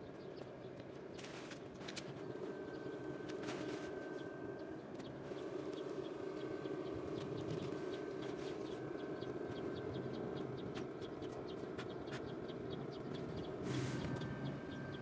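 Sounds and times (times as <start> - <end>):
blower fan running: 0.0 - 15.0.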